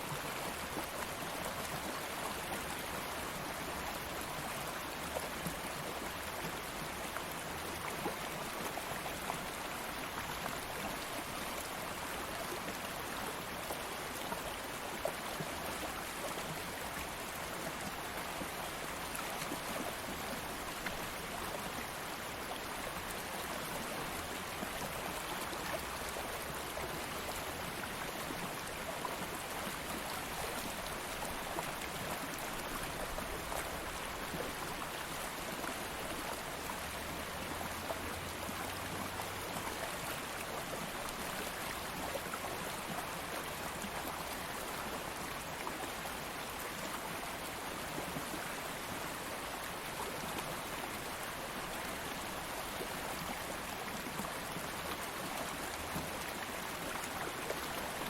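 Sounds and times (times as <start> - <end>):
water flowing over rocks: 0.0 - 58.0.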